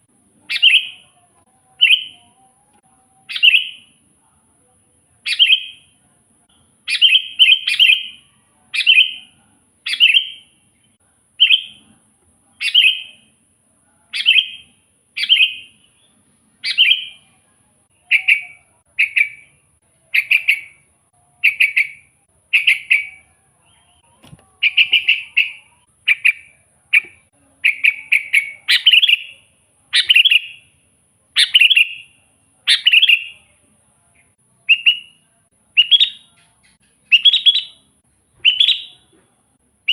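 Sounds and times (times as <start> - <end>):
bird singing chirping phrases: 0.4 - 4.0, 5.2 - 6.0, 6.6 - 11.9, 12.6 - 13.3, 14.0 - 30.7, 31.4 - 39.1.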